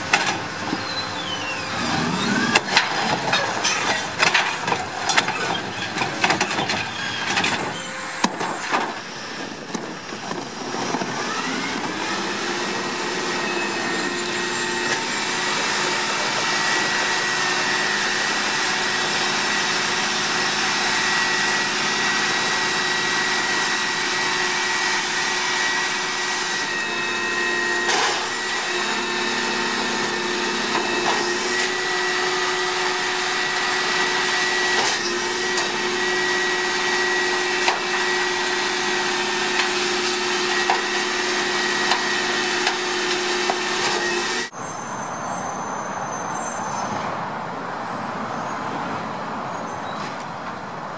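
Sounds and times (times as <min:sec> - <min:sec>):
truck engine revving: 0:00.0 - 0:44.5
hydraulic whine: 0:00.0 - 0:44.8.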